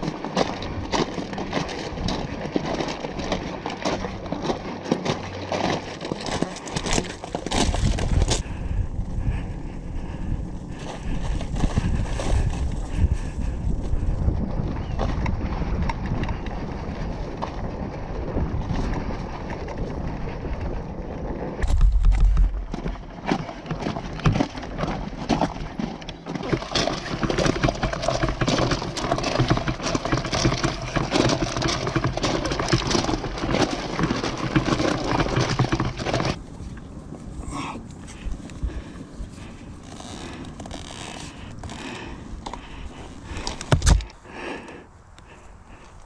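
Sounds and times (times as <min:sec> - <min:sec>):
boots and tyres crunching gravel: 0:00.0 - 0:46.0
motorcycle rolling on gravel: 0:00.0 - 0:46.0
wind rumbling on microphone: 0:00.0 - 0:46.0.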